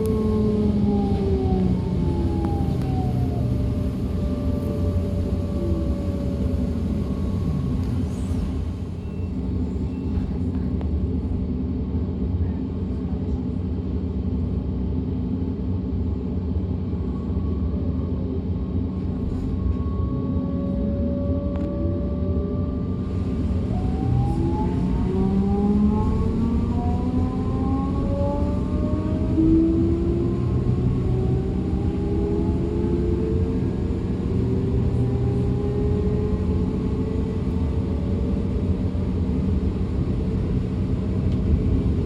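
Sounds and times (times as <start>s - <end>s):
train running gear rumble: 0.0s - 42.0s.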